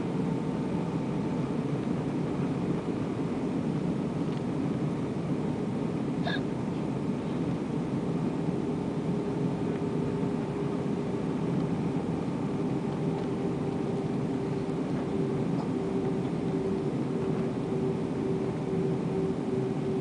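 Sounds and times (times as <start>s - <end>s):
aircraft cabin engine rush: 0.0s - 20.0s
droning hum: 0.0s - 20.0s.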